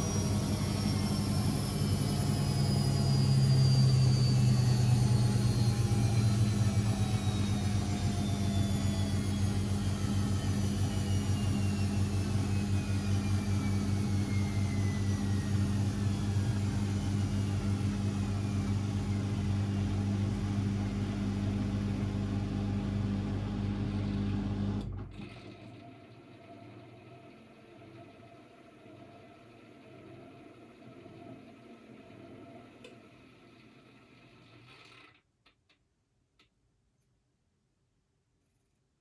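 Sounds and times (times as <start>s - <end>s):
washing machine motor whine: 0.0s - 35.0s.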